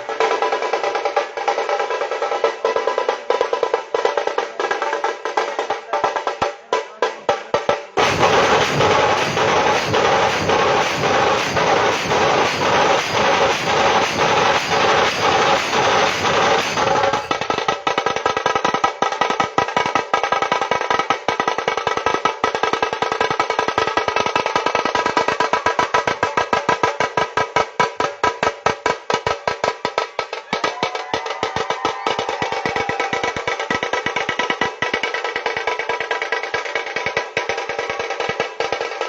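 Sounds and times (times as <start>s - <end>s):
fast drumming: 0.0s - 39.0s.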